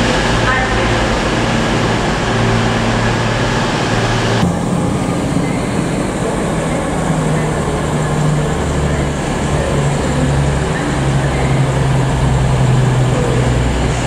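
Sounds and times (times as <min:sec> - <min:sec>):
diesel train engine droning: 0:00.0 - 0:14.0.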